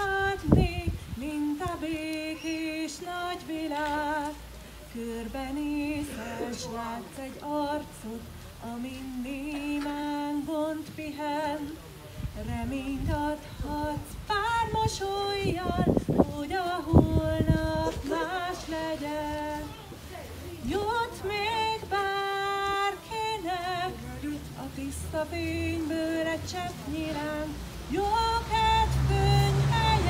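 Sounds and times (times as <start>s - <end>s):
woman singing with vibrato: 0.0s - 30.0s.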